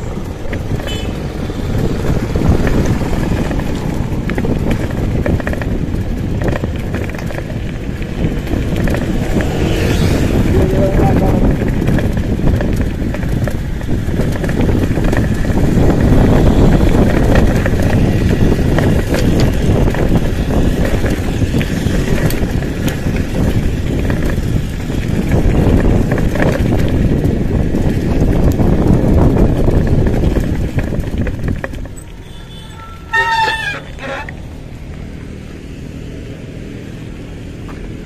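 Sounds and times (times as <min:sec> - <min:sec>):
bike rattles and knocks: 0:00.0 - 0:35.6
wind rushing over microphone: 0:00.0 - 0:38.0.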